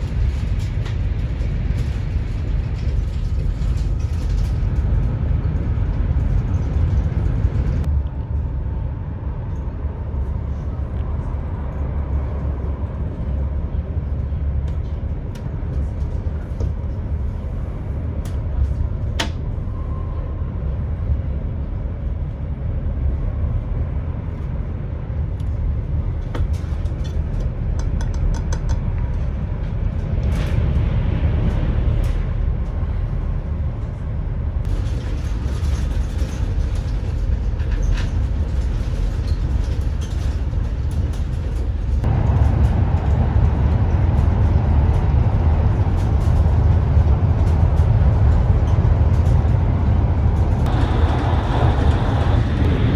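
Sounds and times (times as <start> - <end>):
train rumbling in motion: 0.0 - 52.9.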